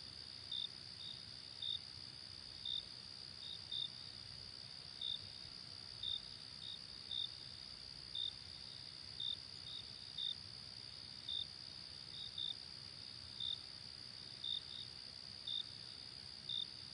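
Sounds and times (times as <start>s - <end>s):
cricket chirps: 0.0s - 16.9s.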